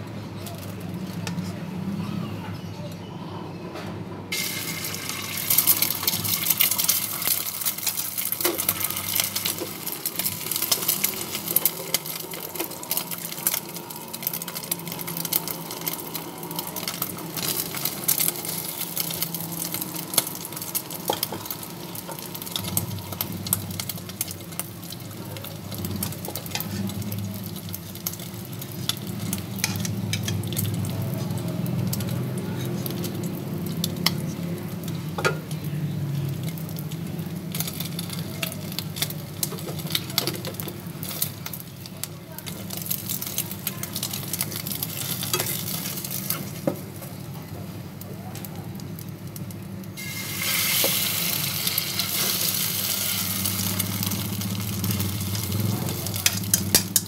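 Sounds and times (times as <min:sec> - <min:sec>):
egg sizzling in hot oil: 0:04.3 - 0:35.4, 0:36.3 - 0:57.0.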